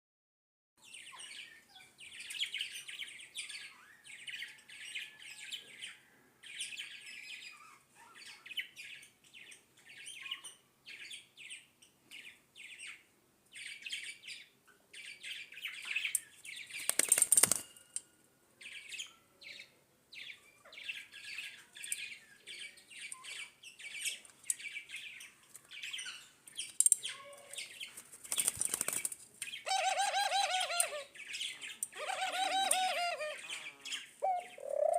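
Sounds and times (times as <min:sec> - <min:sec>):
small birds twittering: 0:00.8 - 0:34.9.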